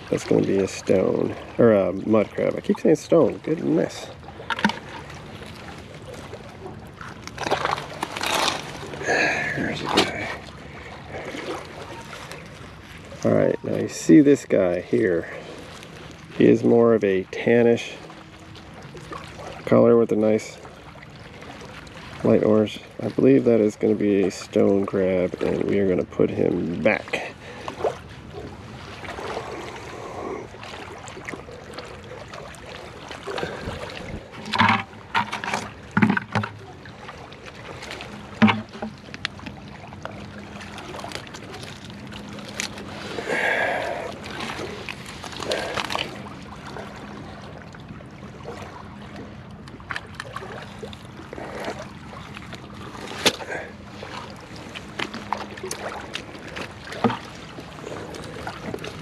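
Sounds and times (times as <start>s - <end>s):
mud squelching: 0.0s - 16.6s, 25.4s - 47.4s, 49.8s - 59.0s
water trickling: 0.0s - 59.0s.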